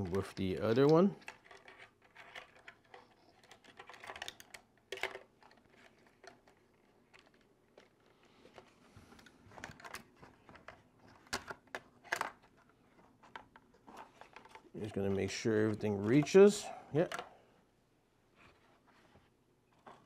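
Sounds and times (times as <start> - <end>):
plastic body clicking and rattling: 0.0 - 16.4.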